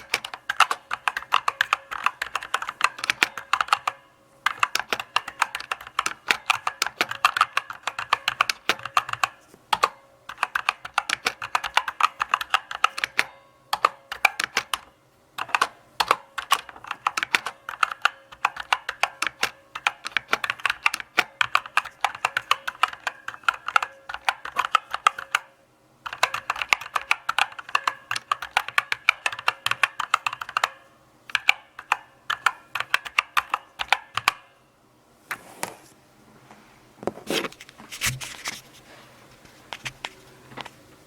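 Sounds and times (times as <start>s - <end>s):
mechanical keyboard typing: 0.0s - 34.5s.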